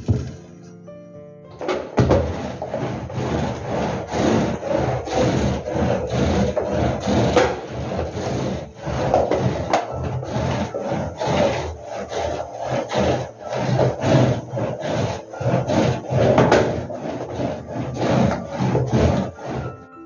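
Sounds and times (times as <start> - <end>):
brush scraping on carpet: 0.0 - 0.8, 2.0 - 19.9.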